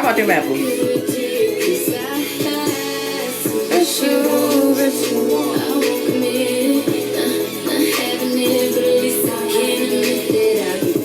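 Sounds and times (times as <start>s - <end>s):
hip-hop music with sung vocals: 0.0s - 11.0s.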